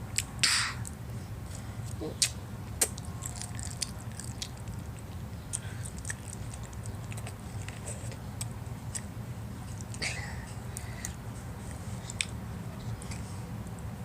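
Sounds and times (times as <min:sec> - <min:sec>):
child chewing noodles: 0:00.0 - 0:13.4
steady low hum: 0:00.0 - 0:14.0.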